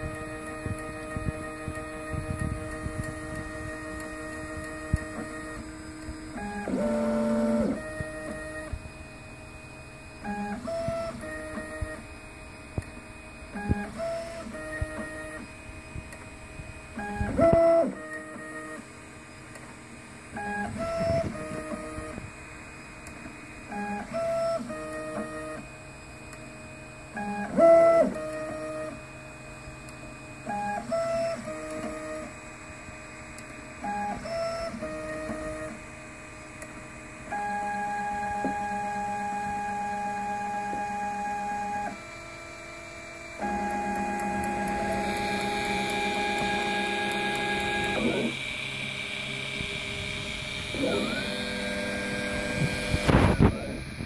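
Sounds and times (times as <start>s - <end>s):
steady hum: 0.0s - 54.0s
stepper motor whine: 0.0s - 54.0s.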